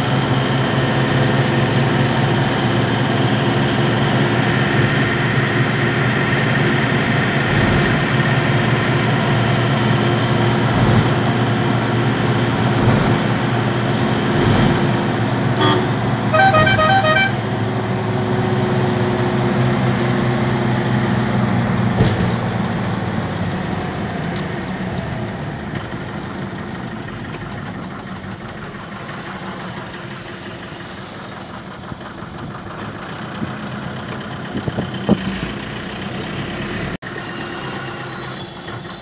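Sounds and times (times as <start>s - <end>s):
vehicle engine hum: 0.0s - 39.0s.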